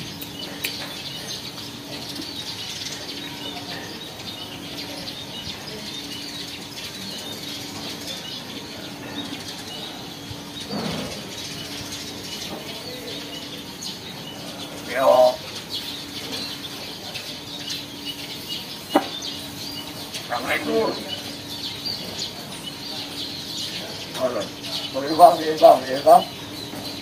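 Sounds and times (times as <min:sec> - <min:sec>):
faint high bird chirping: 0:00.0 - 0:27.0.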